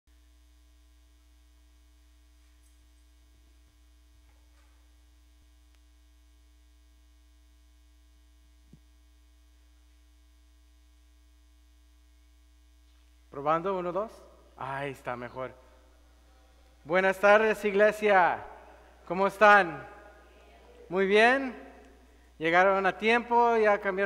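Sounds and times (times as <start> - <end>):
low electrical mains hum: 0.1 - 24.0.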